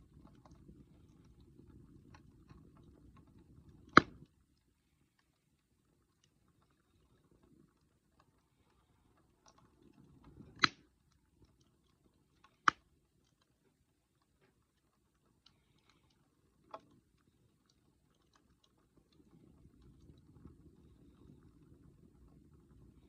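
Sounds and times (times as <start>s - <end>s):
fire pops: 0.0s - 4.7s, 5.6s - 23.0s
campfire crackling: 0.0s - 23.0s.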